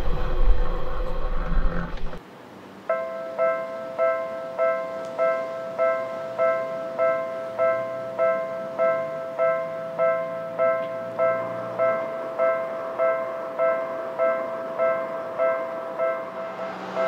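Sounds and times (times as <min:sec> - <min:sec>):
level-crossing electronic bell ringing: 0:02.9 - 0:17.0.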